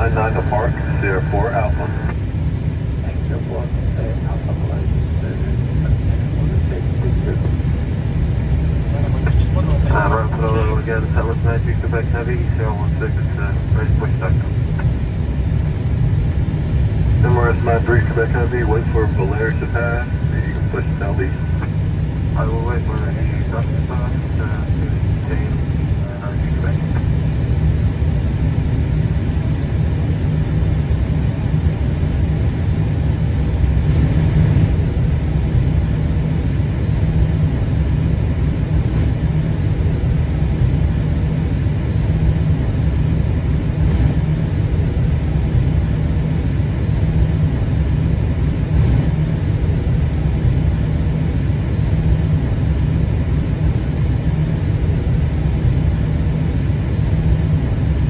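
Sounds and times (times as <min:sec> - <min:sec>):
aircraft cockpit low rumble: 0:00.0 - 0:58.0.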